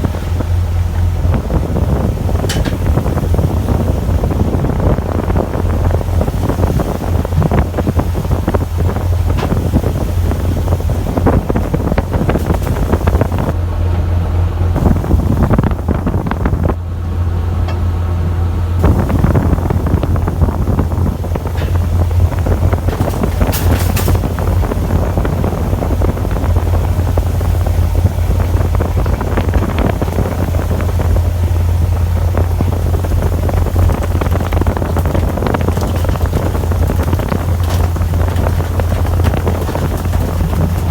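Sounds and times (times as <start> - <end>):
boat engine humming: 0.0 - 40.9
wind buffeting microphone: 0.0 - 40.9.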